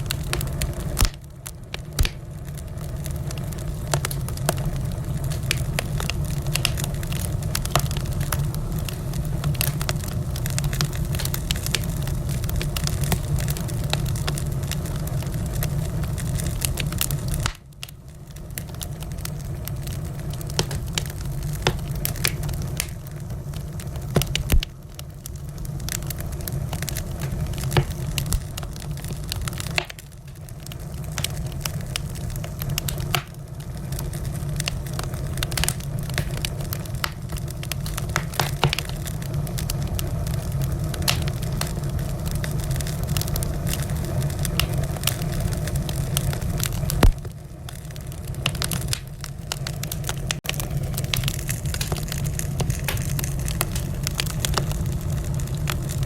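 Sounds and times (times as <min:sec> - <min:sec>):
fire rumbling: 0:00.0 - 0:56.0
wood fire crackling and popping: 0:00.0 - 0:56.0.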